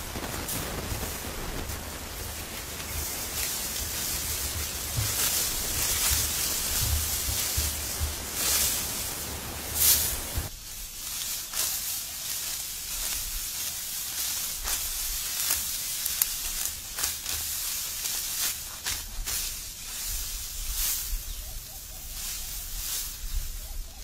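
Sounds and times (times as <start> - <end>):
dry wheat stalks rustling: 0.0 - 24.0
steady hiss: 0.0 - 24.0
crisp snaps of stalks: 0.1 - 20.2.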